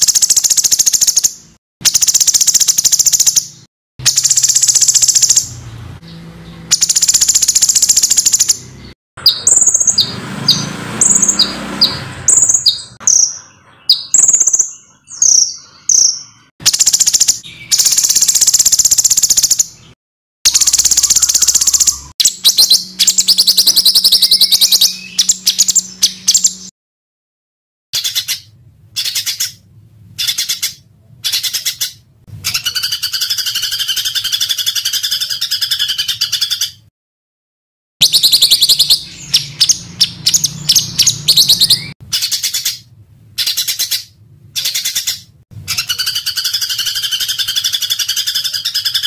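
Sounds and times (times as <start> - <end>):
songbirds harsh rapid bursts: 0.0 - 26.7, 28.0 - 36.9, 38.0 - 49.0.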